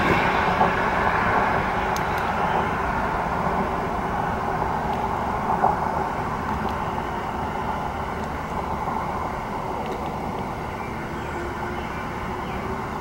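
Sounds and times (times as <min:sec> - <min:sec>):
faint steady hum: 0:00.0 - 0:13.0
vehicle engine idling: 0:00.0 - 0:13.0.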